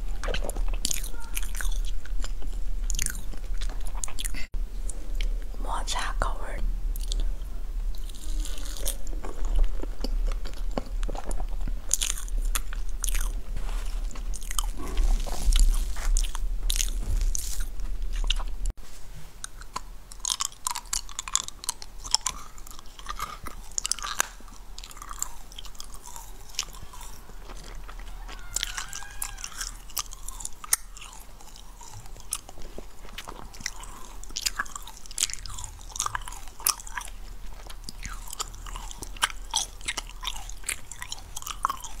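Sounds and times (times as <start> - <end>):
biting and chewing: 0.0 - 5.5, 7.0 - 18.8, 19.4 - 42.0
low electrical hum: 0.0 - 42.0.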